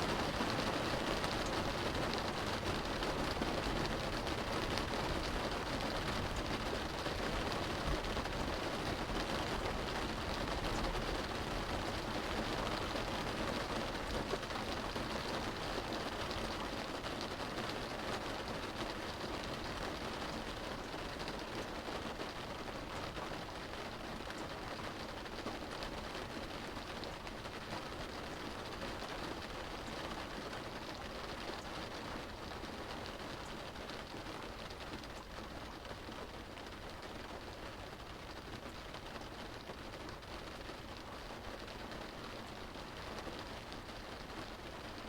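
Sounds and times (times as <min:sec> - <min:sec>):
rain on car roof: 0:00.0 - 0:45.0.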